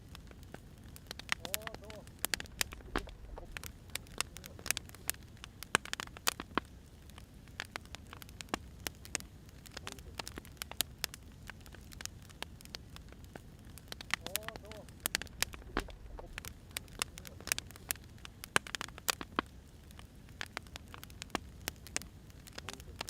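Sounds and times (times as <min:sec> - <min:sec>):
firewood crackling and popping: 0:00.0 - 0:23.0
low rumble of fire: 0:00.0 - 0:23.0.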